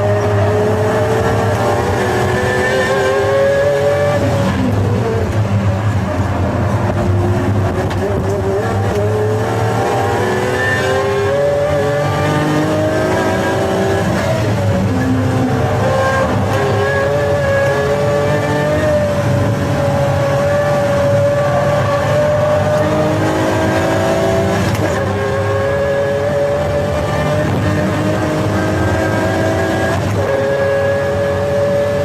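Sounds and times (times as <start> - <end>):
sports car engine accelerating: 0.0 - 32.0.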